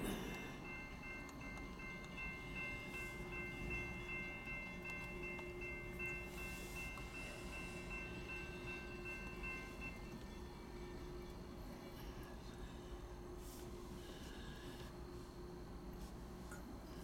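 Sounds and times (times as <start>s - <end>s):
pulsing high ringing tones: 0.0s - 15.9s
train rumbling past: 0.0s - 16.8s.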